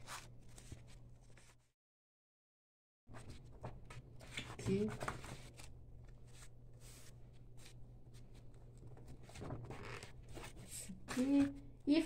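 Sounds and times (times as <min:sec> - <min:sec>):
paper rustling and rubbing: 0:00.0 - 0:01.7, 0:03.1 - 0:11.3.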